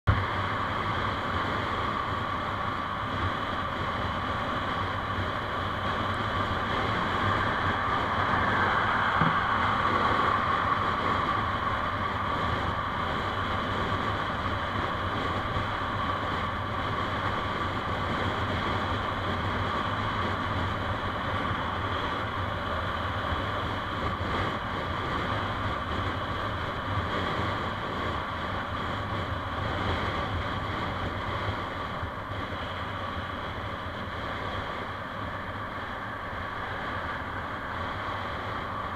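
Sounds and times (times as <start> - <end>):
tyres on road: 0.0 - 38.9
vehicle engine: 0.0 - 38.9
wind on microphone: 0.1 - 38.9.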